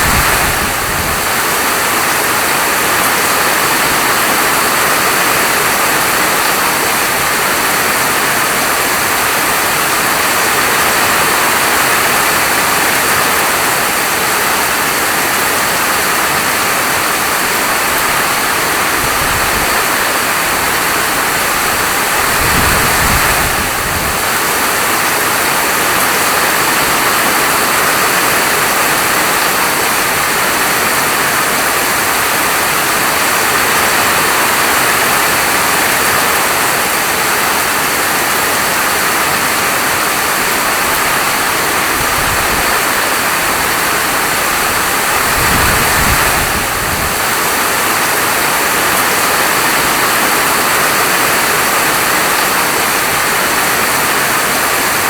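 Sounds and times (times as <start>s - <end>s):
heavy rainfall hiss: 0.0s - 55.0s.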